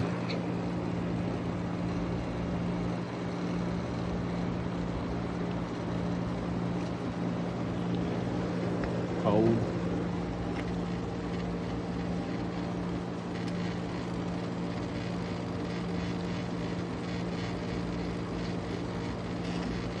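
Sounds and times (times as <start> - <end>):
window air conditioner running: 0.0 - 20.0.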